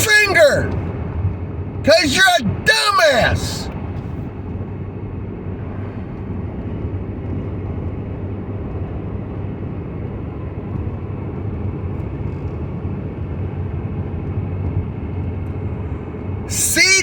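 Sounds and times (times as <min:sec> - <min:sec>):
vehicle road noise drone: 0:00.0 - 0:17.0.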